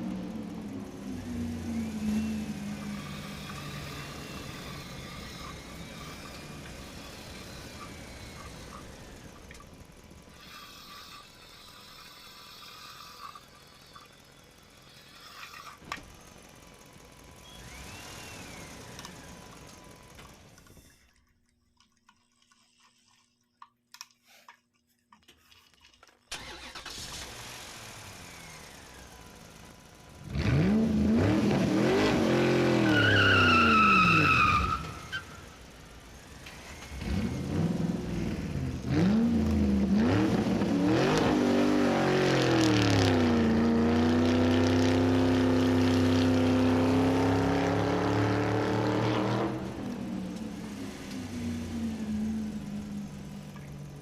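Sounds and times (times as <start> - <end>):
vehicle engine revving: 0.0 - 11.6, 15.7 - 20.6, 26.4 - 54.0.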